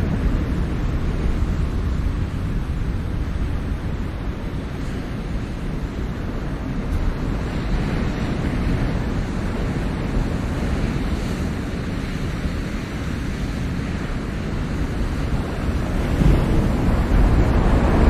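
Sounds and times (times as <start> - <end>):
ocean surf washing on shore: 0.0 - 18.0.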